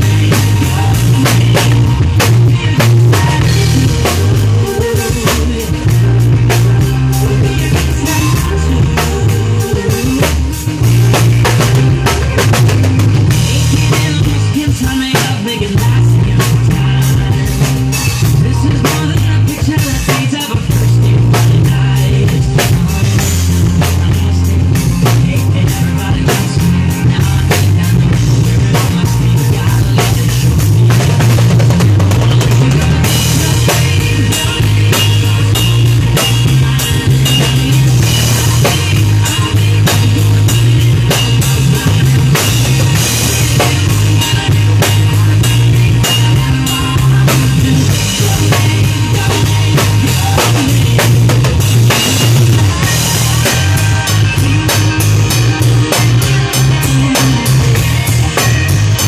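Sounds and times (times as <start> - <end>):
acoustic drum kit playing: 0.0 - 59.0
recorded pop song: 0.0 - 59.0.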